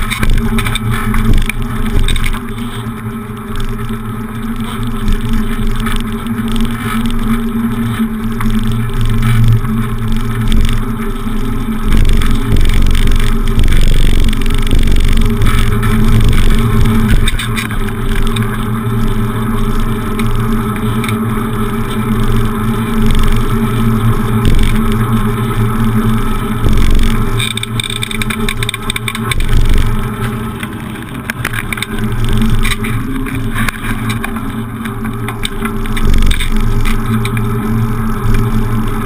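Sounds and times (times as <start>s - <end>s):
steady hum: 0.0s - 39.0s
wind on microphone: 0.0s - 39.0s.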